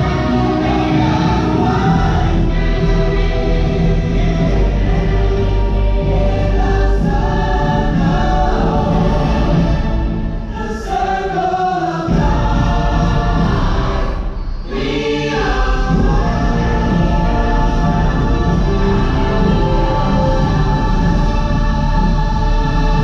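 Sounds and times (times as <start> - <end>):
choir singing sustained notes: 0.0 - 23.0
music: 0.0 - 23.0.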